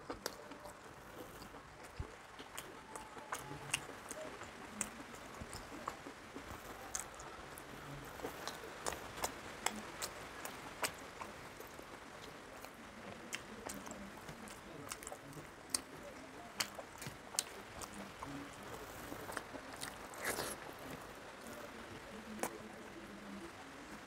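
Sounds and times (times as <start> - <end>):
chewing and lip-smacking: 0.0 - 24.0.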